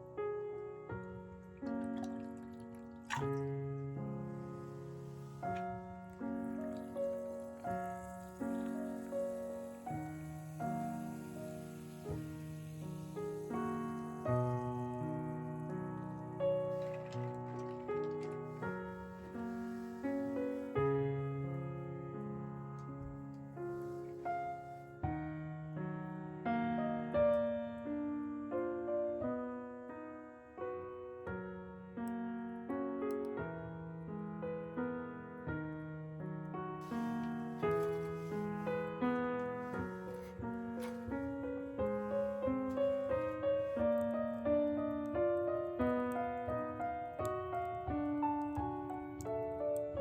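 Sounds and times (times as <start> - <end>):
gentle piano music: 0.0 - 50.0.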